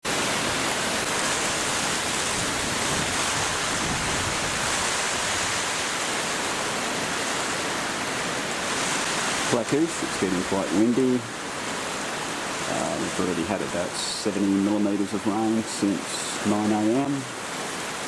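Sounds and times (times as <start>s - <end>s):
heavy rain: 0.0s - 18.0s
wind: 0.0s - 18.0s.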